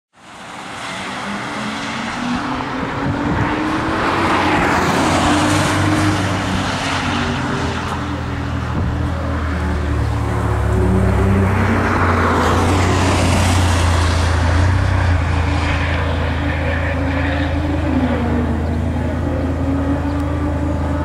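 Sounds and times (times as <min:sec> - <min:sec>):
sports car engines running: 0:00.4 - 0:21.0.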